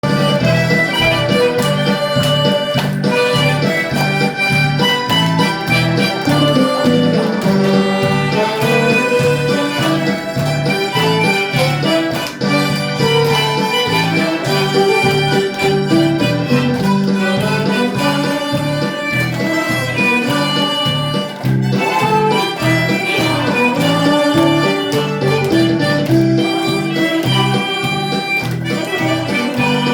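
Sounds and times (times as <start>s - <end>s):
bass line accompaniment: 0.0s - 29.9s
guitar: 0.0s - 29.9s
harmonica melody: 0.0s - 29.9s.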